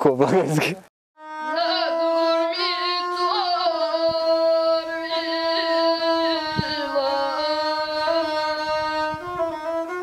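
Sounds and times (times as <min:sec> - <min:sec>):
bowed one-string fiddle: 0:01.2 - 0:10.0
person singing long notes: 0:01.2 - 0:10.0.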